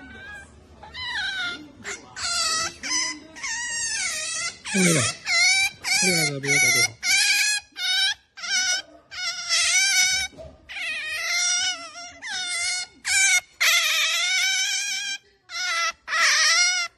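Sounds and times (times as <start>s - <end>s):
otter squeaking: 0.0s - 16.9s.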